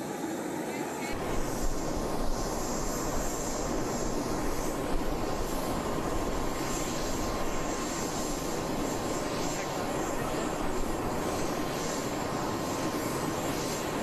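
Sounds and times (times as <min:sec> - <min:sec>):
aircraft engine running: 0:00.0 - 0:14.0
faint high whine: 0:00.0 - 0:14.0.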